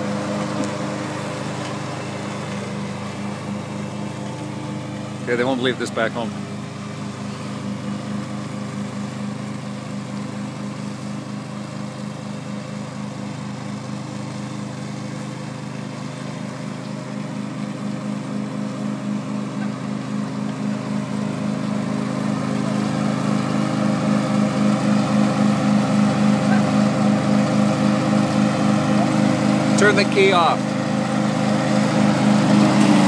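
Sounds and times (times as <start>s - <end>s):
lawn tractor engine running: 0.0s - 33.0s.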